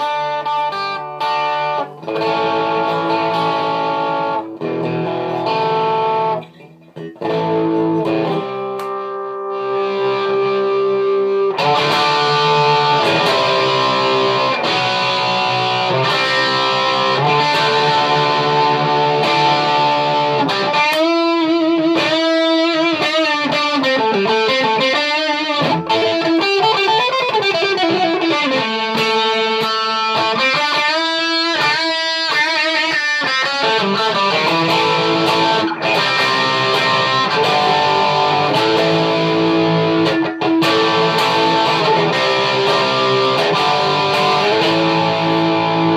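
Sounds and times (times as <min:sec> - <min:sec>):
electric guitar playing: 0:00.0 - 0:45.9.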